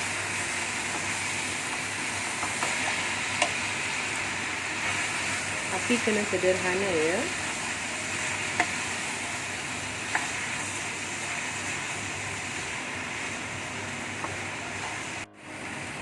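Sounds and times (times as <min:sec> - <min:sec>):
noodles sizzling in a pan: 0:00.0 - 0:16.0.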